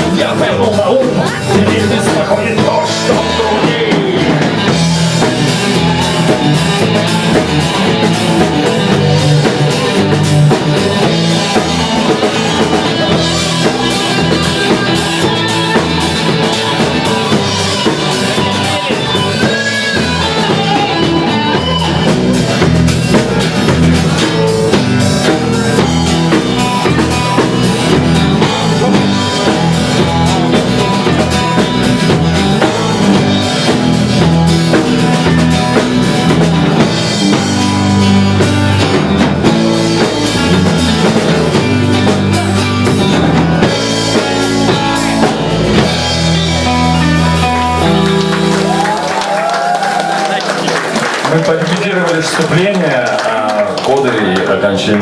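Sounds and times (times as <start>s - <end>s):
drum kit: 0.0s - 55.0s
guitar: 0.0s - 55.0s
rock band playing live: 0.0s - 55.0s.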